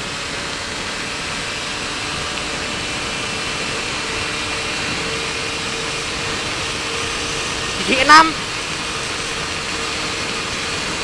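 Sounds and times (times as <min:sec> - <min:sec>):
two-stroke motorcycle at full throttle: 0:00.0 - 0:11.0.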